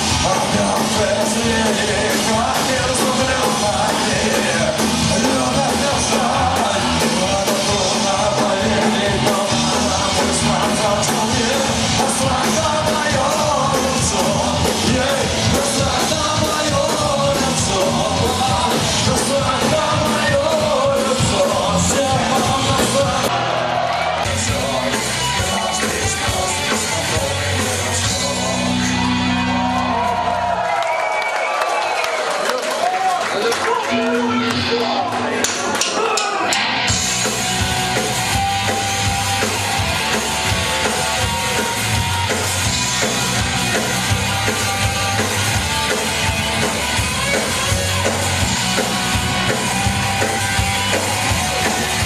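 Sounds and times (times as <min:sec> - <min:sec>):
electric guitars: 0:00.0 - 0:30.7, 0:33.6 - 0:52.0
drums: 0:00.0 - 0:52.0.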